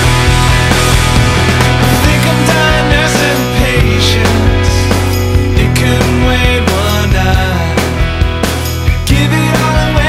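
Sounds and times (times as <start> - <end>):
drum hits: 0.0 - 9.2
rock music: 0.0 - 10.0
steady bass: 0.0 - 10.0.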